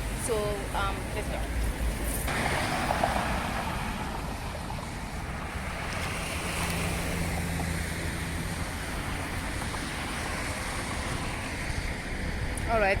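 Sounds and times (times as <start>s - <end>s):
passing vehicle hum: 0.0s - 13.0s
road traffic rumble: 0.0s - 13.0s
wind on microphone: 0.0s - 13.0s.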